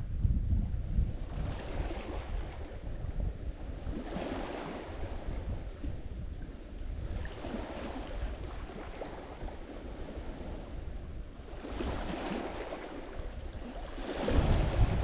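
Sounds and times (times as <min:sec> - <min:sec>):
waves breaking on shore: 0:01.2 - 0:15.0.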